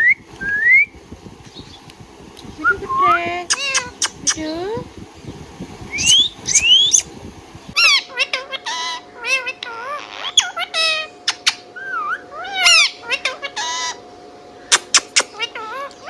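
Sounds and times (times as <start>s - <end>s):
parakeet calling: 0.0s - 14.0s, 14.6s - 16.0s.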